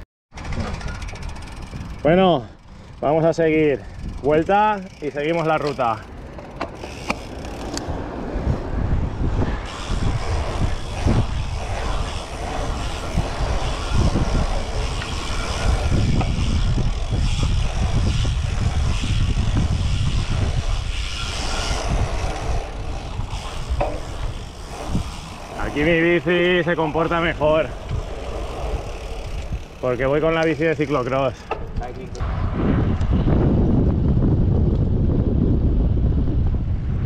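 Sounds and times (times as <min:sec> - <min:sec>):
tyre and road noise rumble: 0:00.3 - 0:37.0
wind buffeting microphone: 0:00.3 - 0:37.0.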